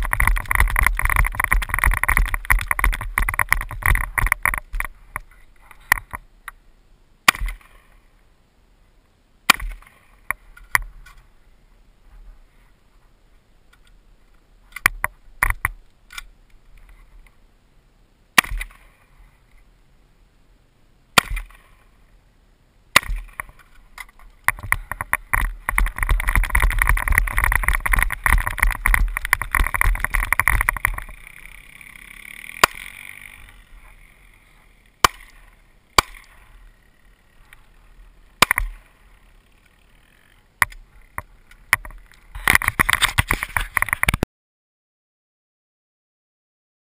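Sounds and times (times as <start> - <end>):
rough microphone noise: 0.0 - 20.5, 23.0 - 44.3.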